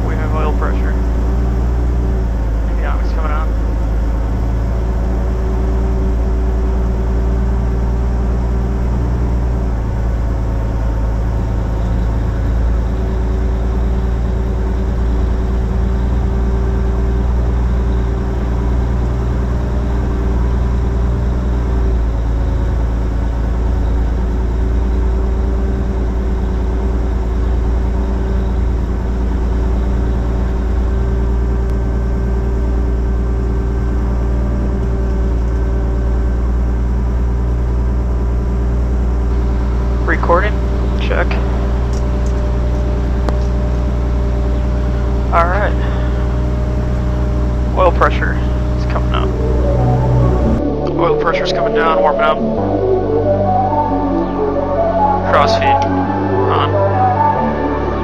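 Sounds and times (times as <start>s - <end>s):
propeller aircraft engine droning: 0.0s - 58.0s
steady hum: 0.0s - 58.0s.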